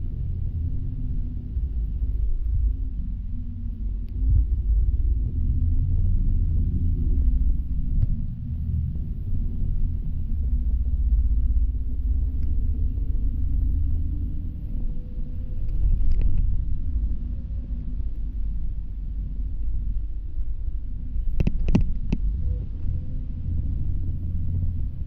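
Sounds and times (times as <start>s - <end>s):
bus engine rumble: 0.0s - 25.0s
faint whine: 0.0s - 25.0s.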